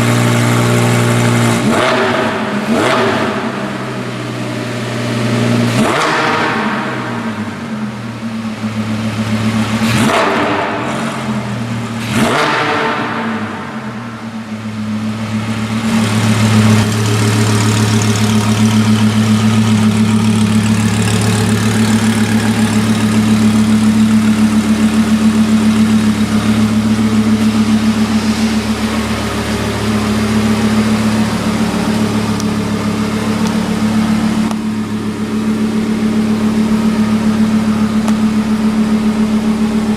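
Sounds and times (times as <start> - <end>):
sports car engine revving and idling: 0.0 - 39.9.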